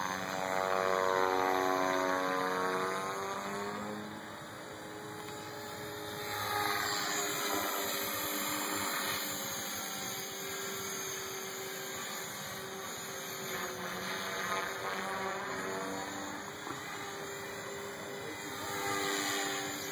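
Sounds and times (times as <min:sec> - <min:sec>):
model helicopter motor whine: 0:00.0 - 0:19.9.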